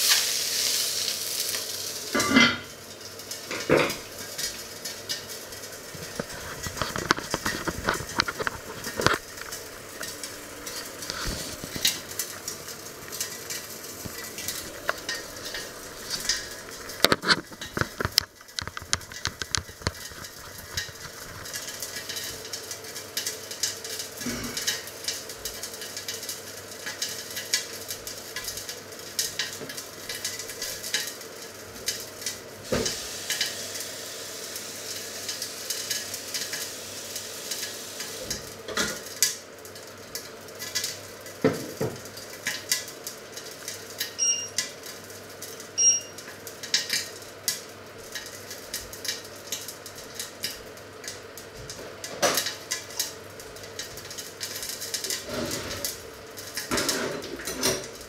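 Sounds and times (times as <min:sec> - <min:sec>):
chicken sizzling in a grill pan: 0:00.0 - 0:58.0.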